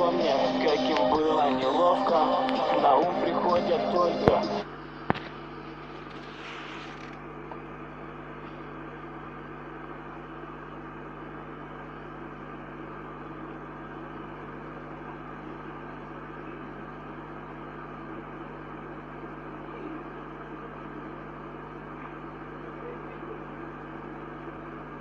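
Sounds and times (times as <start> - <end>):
low hum: 0.0 - 24.6.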